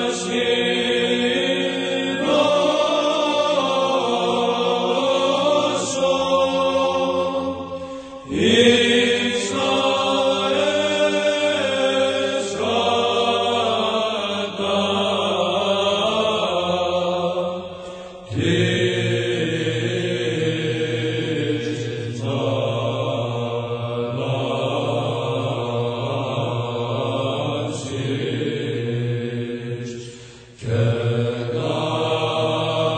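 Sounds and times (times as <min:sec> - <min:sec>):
chanting in slow sung phrases: 0:00.0 - 0:32.9.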